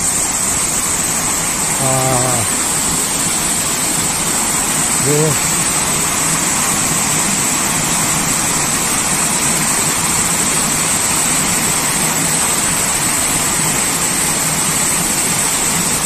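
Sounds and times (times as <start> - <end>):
water rushing over weir steps: 0.0 - 16.0.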